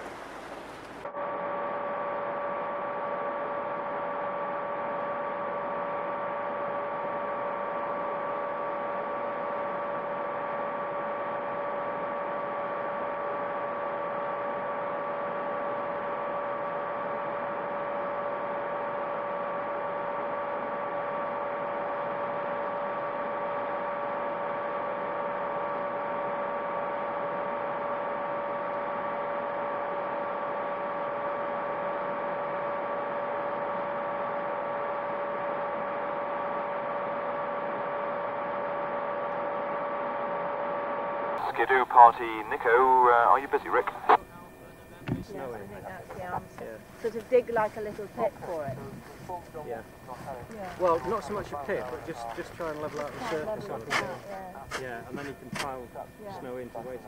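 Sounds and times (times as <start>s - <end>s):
steady tonal hum: 0.0s - 57.0s.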